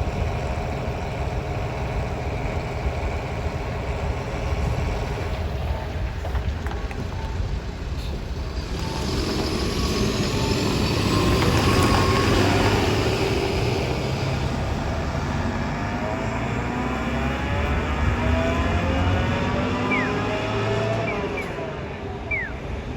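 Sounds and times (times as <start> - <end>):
diesel engine with abnormal noise: 0.0 - 22.9.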